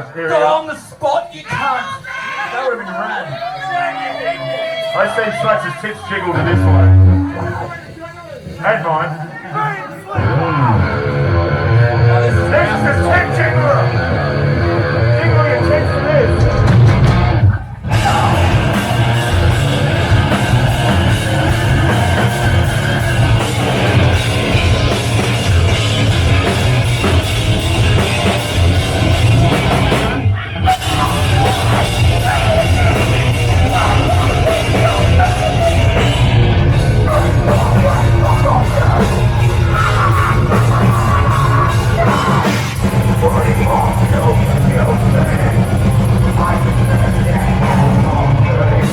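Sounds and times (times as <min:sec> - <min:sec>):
yelled vocals: 0:01.3 - 0:48.9
heavy metal band playing live: 0:05.4 - 0:08.8, 0:10.2 - 0:48.9.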